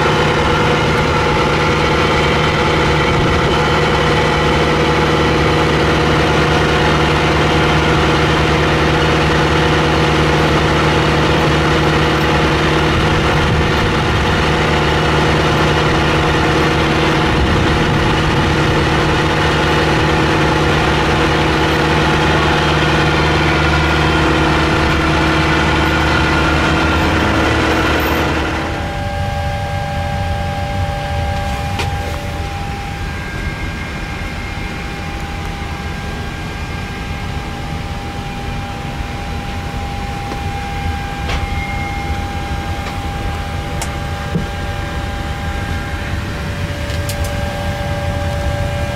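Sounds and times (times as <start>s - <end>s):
engine drone with held tones: 0.0s - 48.9s.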